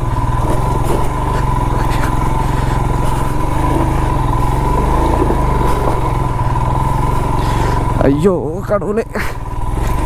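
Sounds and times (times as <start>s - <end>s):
steady whine: 0.0s - 9.5s
motorcycle engine running: 0.0s - 10.0s.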